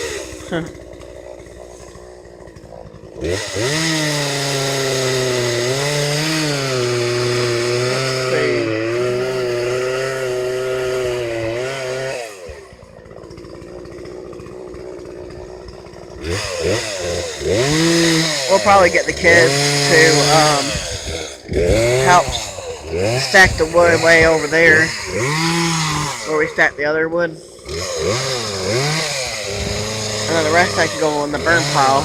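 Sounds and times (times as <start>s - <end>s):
chainsaw cutting wood: 0.0s - 32.0s
chainsaw idling: 0.0s - 32.0s.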